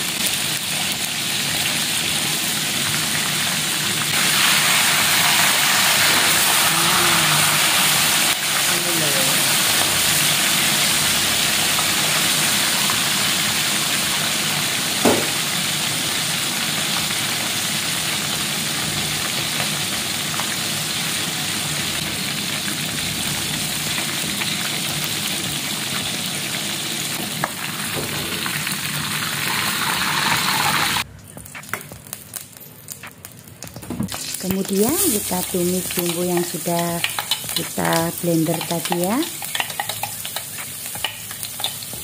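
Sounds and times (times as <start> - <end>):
fish deep-frying in oil: 0.0 - 42.0.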